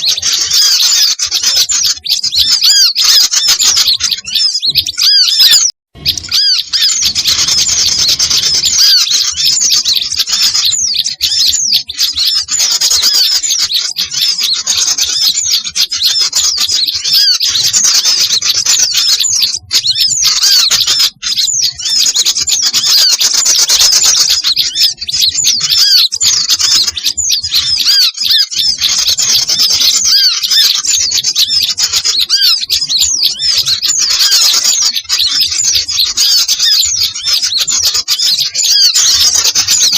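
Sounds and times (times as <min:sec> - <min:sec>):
small songbirds chattering: 0:00.0 - 0:39.9.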